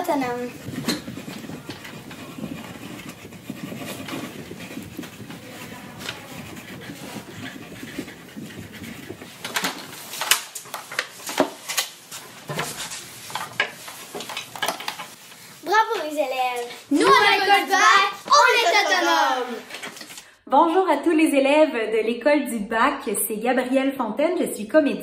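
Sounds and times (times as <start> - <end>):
pencils scratching on paper: 0.0 - 20.3.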